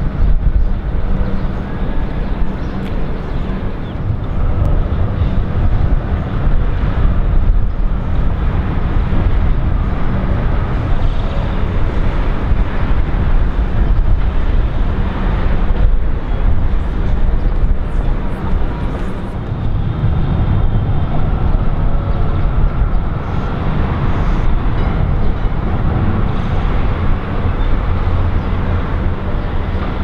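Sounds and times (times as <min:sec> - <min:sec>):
city road traffic rumble: 0:00.0 - 0:30.0.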